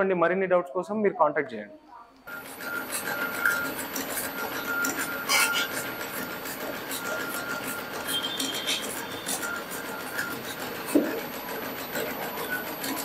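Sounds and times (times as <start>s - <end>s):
embroidery machine stitching: 2.3s - 13.0s.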